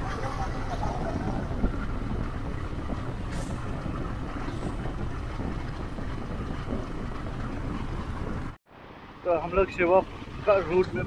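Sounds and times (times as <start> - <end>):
wind rush on microphone: 0.0 - 8.6, 9.4 - 11.0.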